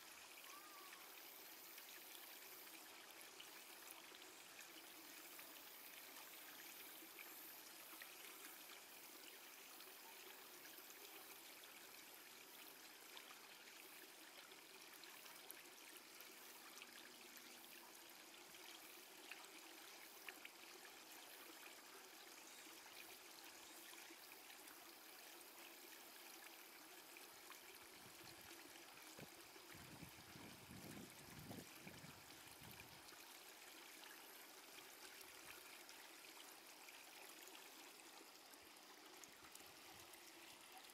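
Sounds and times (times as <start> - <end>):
faint steady hiss: 0.0 - 40.9.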